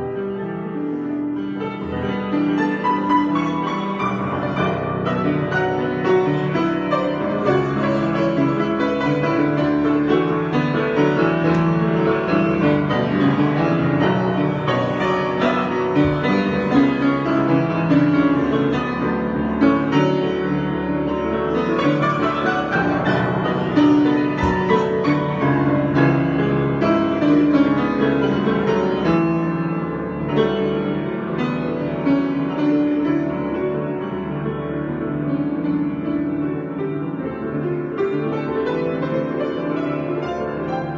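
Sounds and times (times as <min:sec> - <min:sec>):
piano improvisation: 0:00.0 - 0:40.9.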